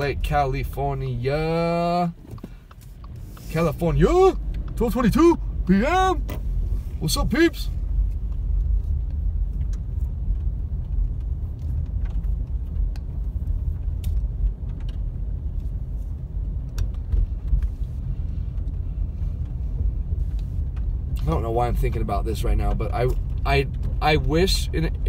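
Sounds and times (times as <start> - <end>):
car driving on wet street: 0.0 - 25.0.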